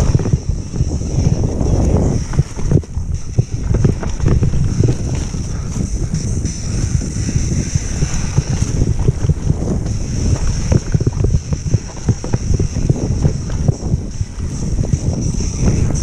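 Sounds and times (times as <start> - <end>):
bike knocking and rattling on bumps: 0.0 - 16.0
steady low rumble: 0.0 - 16.0
wind buffeting microphone: 0.0 - 16.0.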